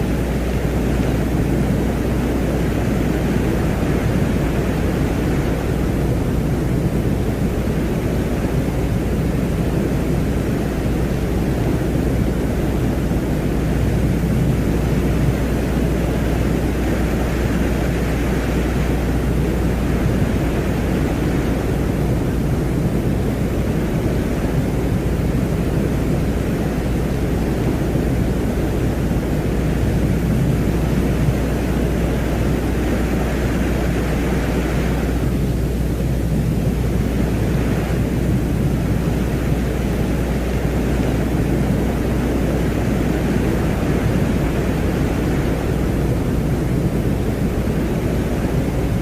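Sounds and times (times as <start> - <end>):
windy hiss: 0.0 - 49.0.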